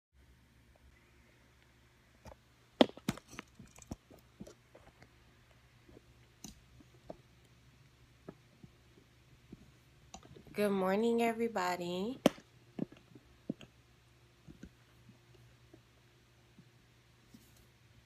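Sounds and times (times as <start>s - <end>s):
faint steady hum: 0.2s - 18.0s.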